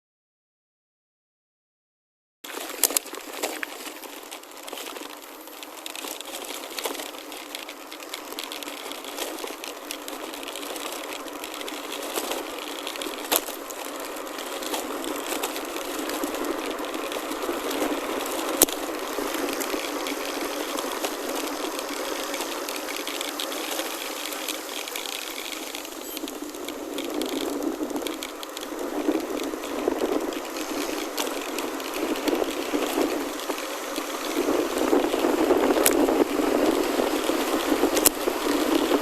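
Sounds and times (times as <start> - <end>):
tyres crunching on gravel: 2.4 - 39.0
bike hub ticking: 2.8 - 39.0.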